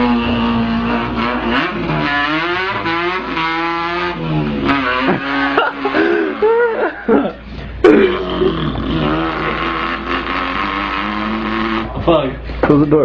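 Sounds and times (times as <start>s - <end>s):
man imitating car engine: 0.0s - 12.2s.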